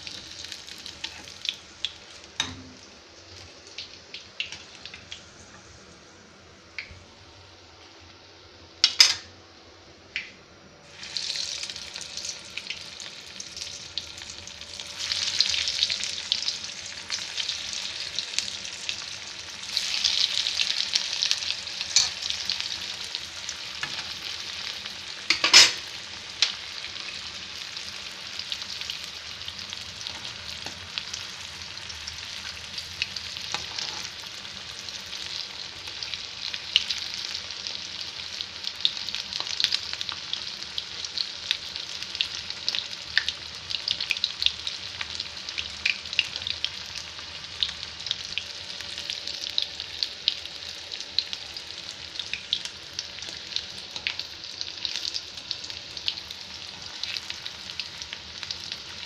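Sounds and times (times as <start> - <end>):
food deep-frying in oil: 0.0 - 6.0, 10.8 - 59.0.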